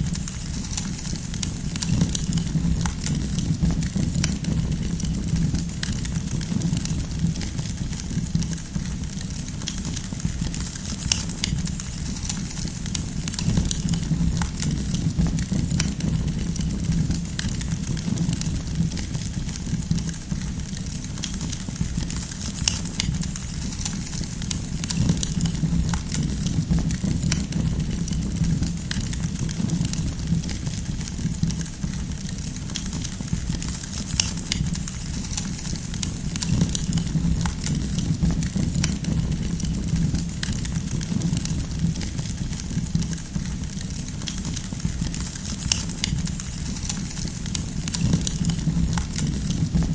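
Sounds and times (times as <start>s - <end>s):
fire low rumble: 0.0s - 49.9s
firewood crackles and pops: 0.0s - 49.9s.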